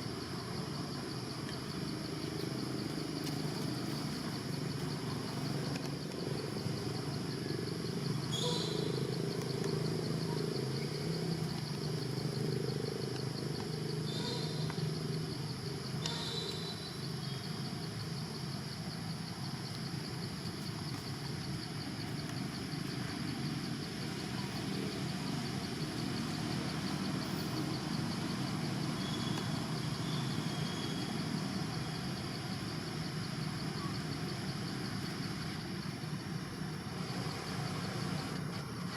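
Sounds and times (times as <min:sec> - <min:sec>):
pulsing insect drone: 0:00.0 - 0:38.9.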